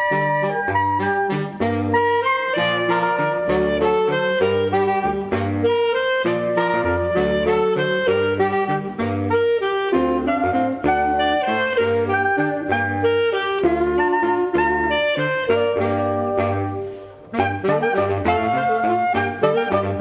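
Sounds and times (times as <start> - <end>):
saxophone quartet melody: 0.0 - 20.0.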